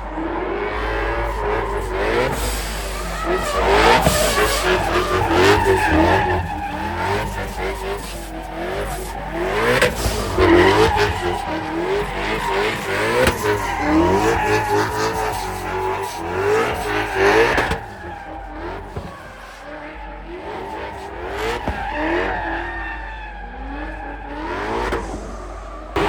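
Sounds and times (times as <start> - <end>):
car engine revving: 0.0 - 26.0
tyres squealing: 0.0 - 26.0.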